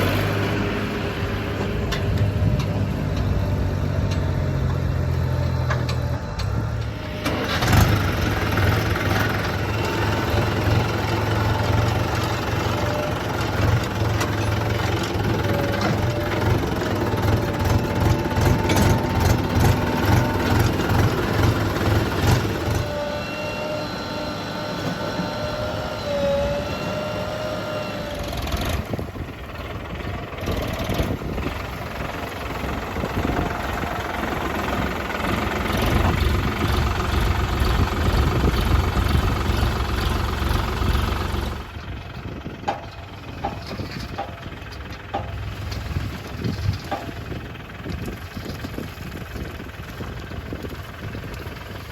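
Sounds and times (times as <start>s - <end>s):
heavy diesel engines running: 0.0s - 51.9s.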